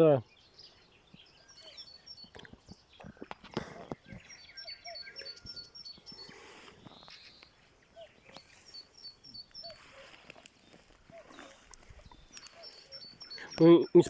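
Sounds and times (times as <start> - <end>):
songbird chirping: 0.0 - 14.0
soft lower bird calls: 0.2 - 14.0.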